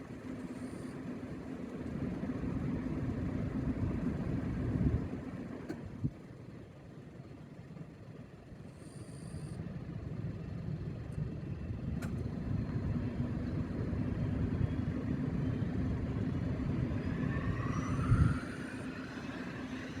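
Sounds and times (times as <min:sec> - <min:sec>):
propeller airplane engine drone: 0:00.0 - 0:20.0.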